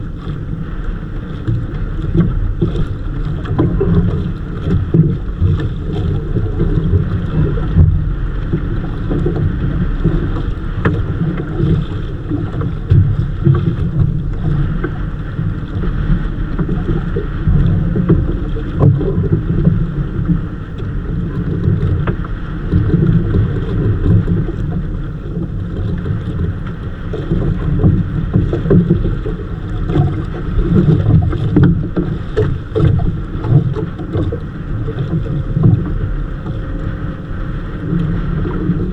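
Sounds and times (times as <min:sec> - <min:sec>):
water washing around hull: 0:00.0 - 0:38.9
wind buffeting microphone: 0:00.0 - 0:38.9.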